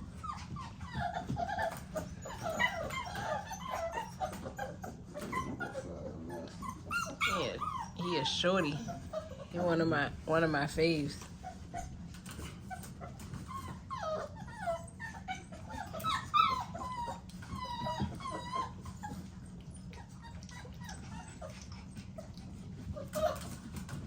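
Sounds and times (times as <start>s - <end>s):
puppies whining and yipping: 0.0s - 24.0s.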